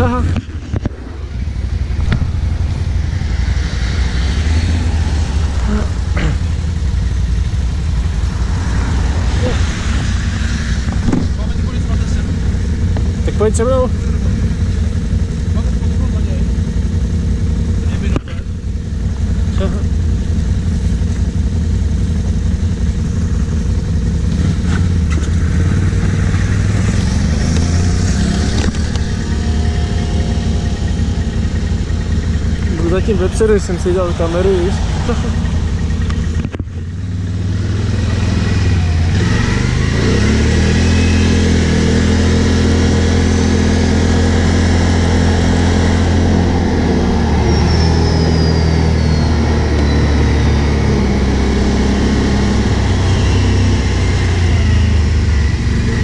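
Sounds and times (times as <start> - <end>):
quad bike engines idling: 0.0 - 9.6, 10.9 - 56.0.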